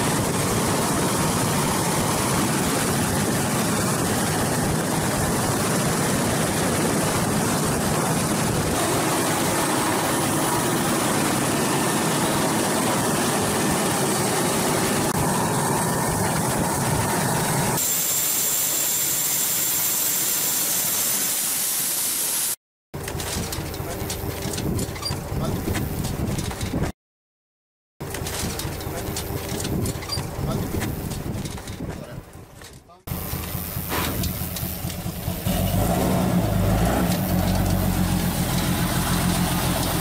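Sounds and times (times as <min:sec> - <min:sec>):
helicopter rotor and turbine engines: 0:00.0 - 0:26.9, 0:28.0 - 0:40.0.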